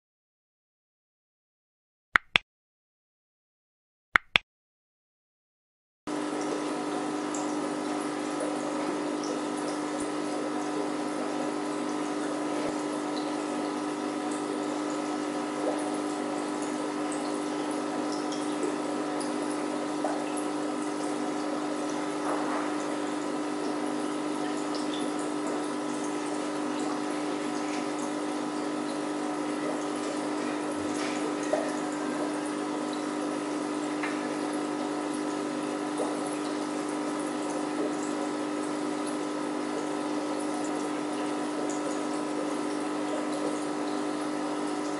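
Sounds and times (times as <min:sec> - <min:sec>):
aquarium pump humming: 0:06.1 - 0:44.9
water trickling and bubbling: 0:06.2 - 0:44.9.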